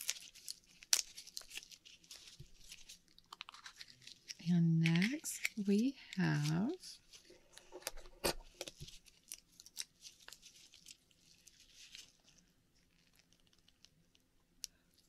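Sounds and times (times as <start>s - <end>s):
soft tearing: 0.0s - 5.6s, 6.3s - 14.2s.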